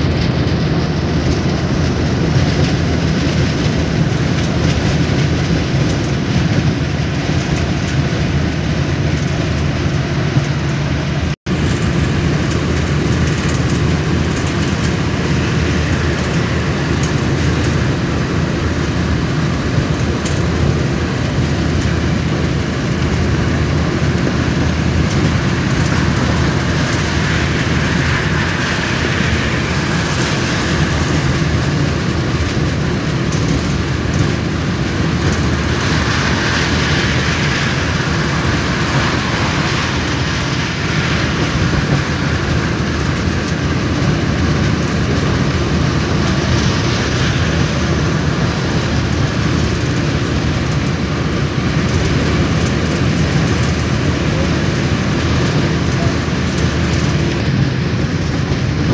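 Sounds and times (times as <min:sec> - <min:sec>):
road and engine noise inside vehicle: 0:00.0 - 0:58.9.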